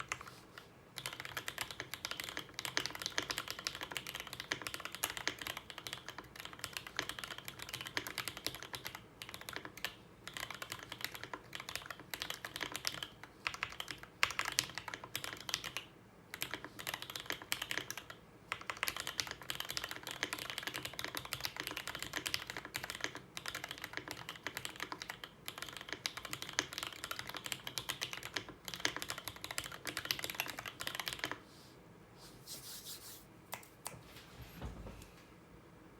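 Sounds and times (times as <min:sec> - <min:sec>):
mechanical keyboard typing: 0:01.0 - 0:31.4.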